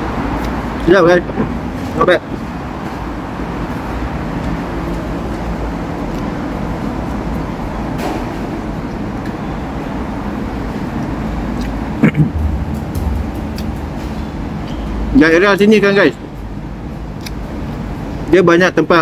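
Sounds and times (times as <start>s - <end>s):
road traffic passing cars: 0.0s - 19.0s.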